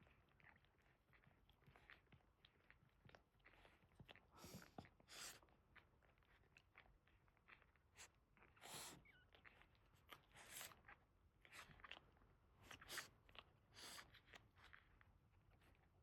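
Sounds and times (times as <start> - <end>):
dog licking and chewing: 0.0 - 8.7, 9.3 - 16.0.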